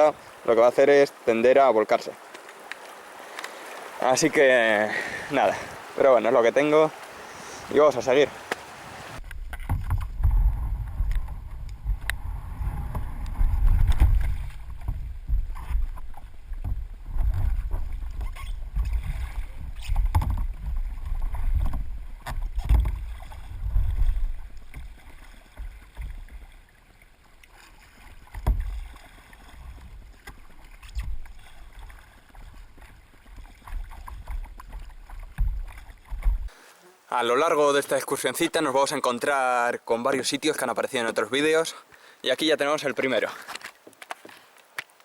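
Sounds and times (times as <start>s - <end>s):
paddle strokes swishing through water: 0.0s - 37.1s.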